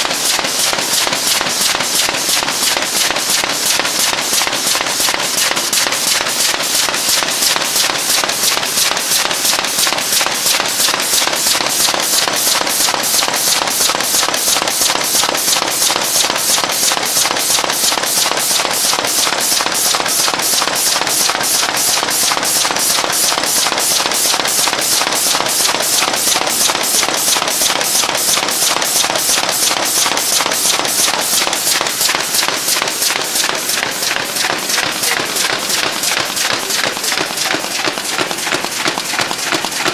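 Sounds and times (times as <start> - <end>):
machine clacking: 0.0 - 39.9.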